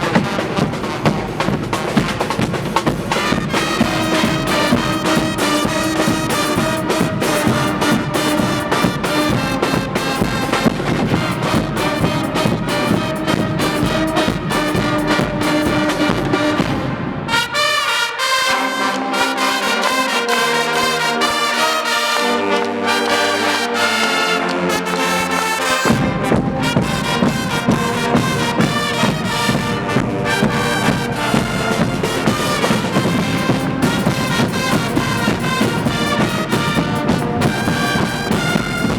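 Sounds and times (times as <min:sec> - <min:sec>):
drums: 0:00.0 - 0:18.1, 0:25.5 - 0:38.9
carnival brass band playing: 0:00.0 - 0:38.9.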